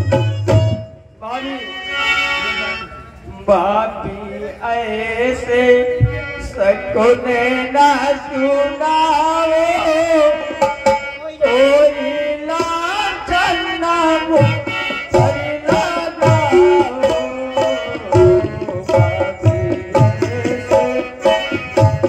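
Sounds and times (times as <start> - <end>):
tabla: 0.0 - 1.2, 1.8 - 22.0
harmonium: 0.0 - 22.0.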